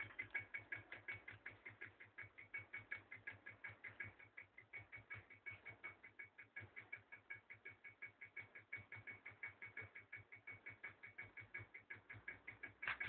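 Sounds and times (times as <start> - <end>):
magnet motor ticking: 0.0 - 13.0.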